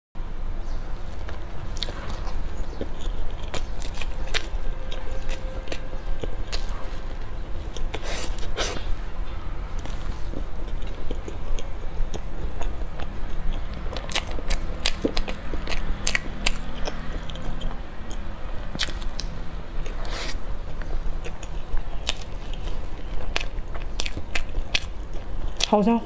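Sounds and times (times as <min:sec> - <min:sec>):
steady low hum: 0:00.2 - 0:26.0
person chewing food: 0:01.0 - 0:09.0, 0:09.7 - 0:25.7.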